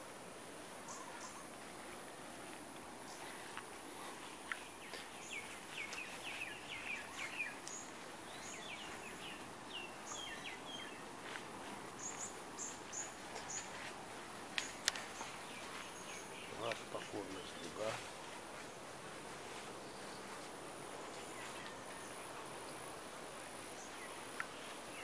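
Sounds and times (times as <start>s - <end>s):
birds chirping: 0.0s - 25.0s
outdoor hiss: 0.0s - 25.0s.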